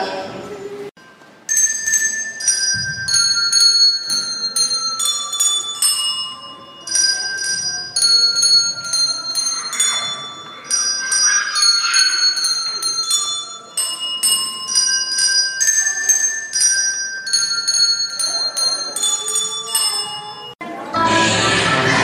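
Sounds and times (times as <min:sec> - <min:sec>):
handbells playing slow melody: 0:01.0 - 0:20.6.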